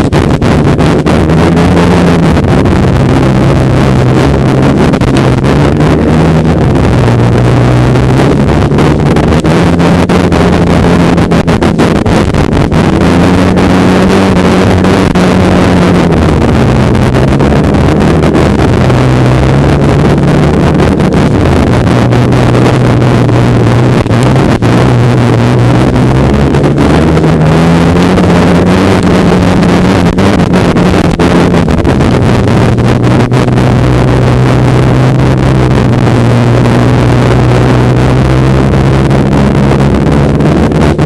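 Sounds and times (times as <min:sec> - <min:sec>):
snowmobile engine running: 0:00.0 - 0:41.0.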